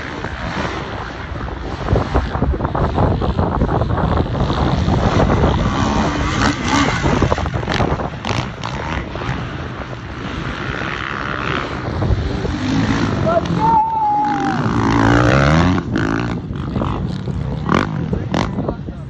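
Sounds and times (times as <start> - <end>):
motocross bike engines revving: 0.0 - 19.0
wind rumbling on microphone: 0.0 - 19.0.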